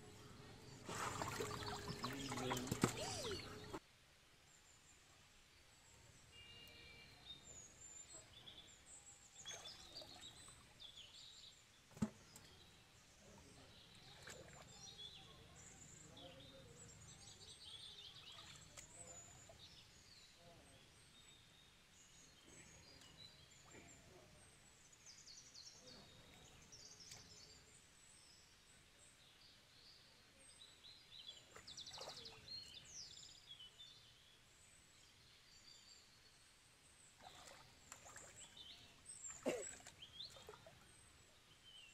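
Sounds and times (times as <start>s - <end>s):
small birds chirping: 0.0s - 3.8s, 5.9s - 41.9s.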